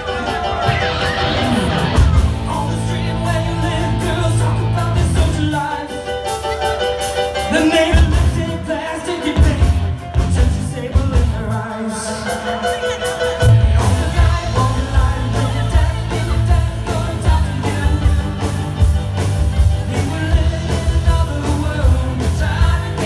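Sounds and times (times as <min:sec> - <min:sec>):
person singing: 0:00.0 - 0:19.0, 0:19.6 - 0:23.0
live rock band playing: 0:00.0 - 0:23.0.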